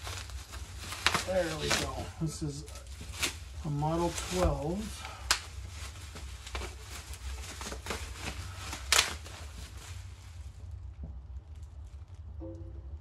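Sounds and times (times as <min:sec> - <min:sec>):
bubble wrap crinkling: 0:00.0 - 0:12.4.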